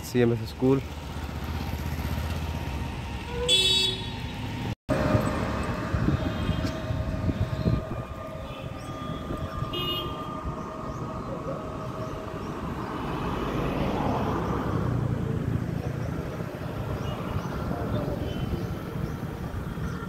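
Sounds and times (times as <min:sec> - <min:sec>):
road traffic rumble: 0:00.0 - 0:20.0
vehicle passing: 0:00.8 - 0:03.2, 0:04.3 - 0:19.8.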